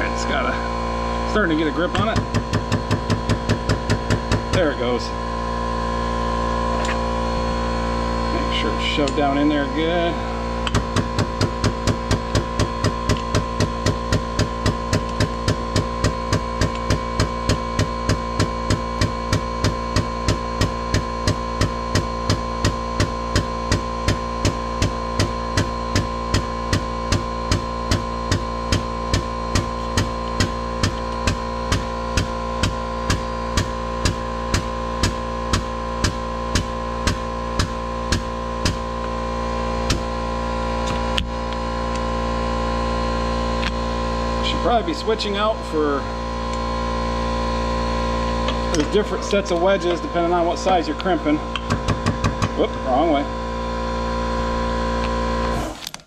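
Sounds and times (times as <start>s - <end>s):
hydraulic crimping tool pump: 0.0s - 5.5s, 6.7s - 42.2s, 47.6s - 56.0s
steady hum: 0.0s - 56.0s.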